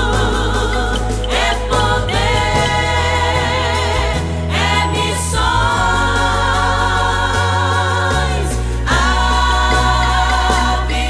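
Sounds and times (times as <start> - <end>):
steady bass accompaniment: 0.0 - 11.0
voices singing gospel: 0.0 - 11.0.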